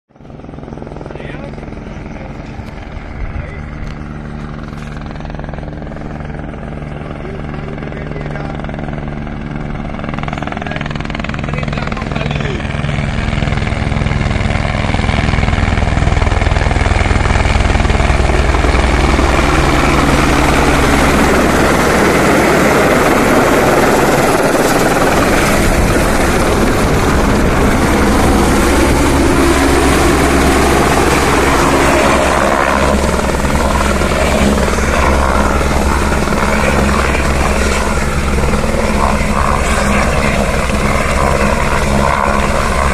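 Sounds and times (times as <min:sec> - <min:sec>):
helicopter rotor and turbine: 0:00.1 - 0:42.9.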